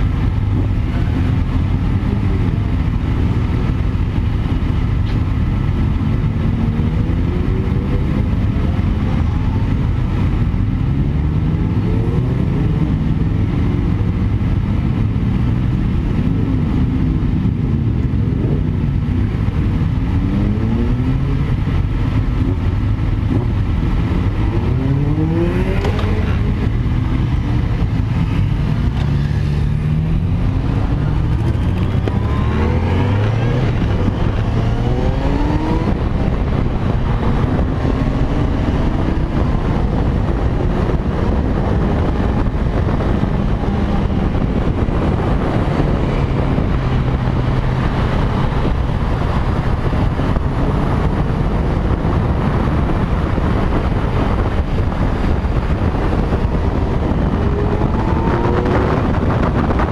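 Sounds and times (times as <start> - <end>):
motorcycle engine accelerating: 0.0 - 59.9
wind rushing over microphone: 0.0 - 59.9.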